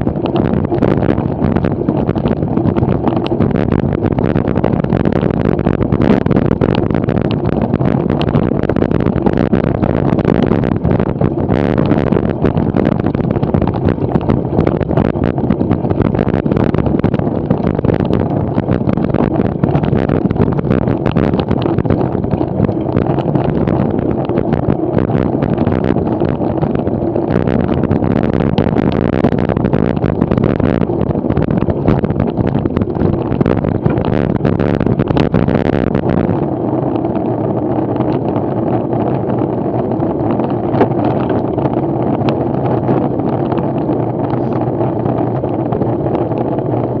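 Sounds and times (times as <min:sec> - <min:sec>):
bike rattling over rough ground: 0:00.0 - 0:47.0
wind rumbling on microphone: 0:00.0 - 0:47.0.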